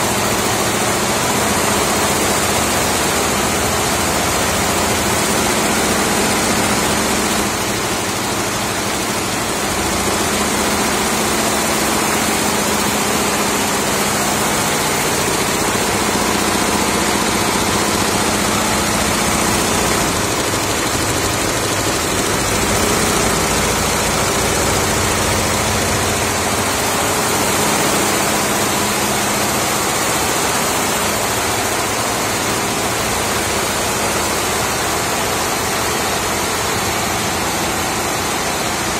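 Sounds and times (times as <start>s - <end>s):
embroidery machine running: 0.0s - 38.9s.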